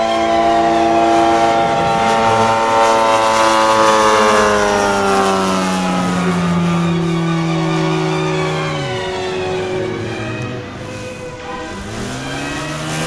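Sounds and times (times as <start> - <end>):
model plane engine running: 0.0 - 13.0.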